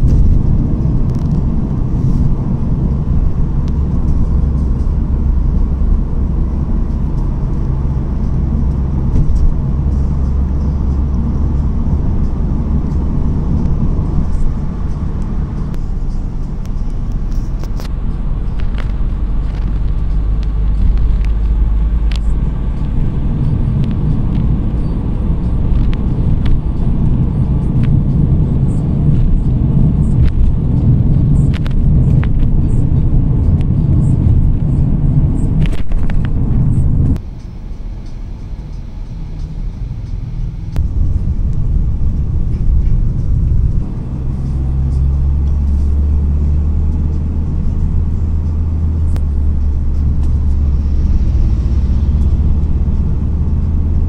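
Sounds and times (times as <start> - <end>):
tyre and engine rumble: 0.0 - 54.0.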